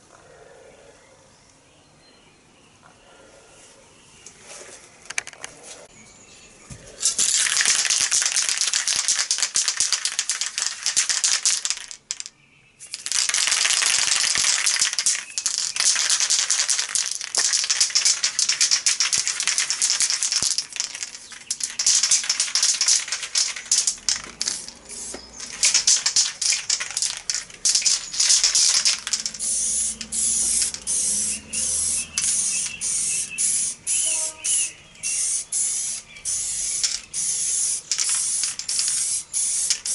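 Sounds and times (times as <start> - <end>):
spray paint can hissing: 7.0 - 39.9.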